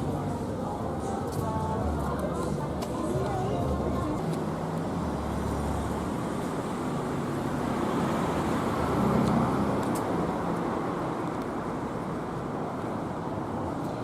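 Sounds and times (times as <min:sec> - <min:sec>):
passing cars rumble: 0:00.0 - 0:14.0.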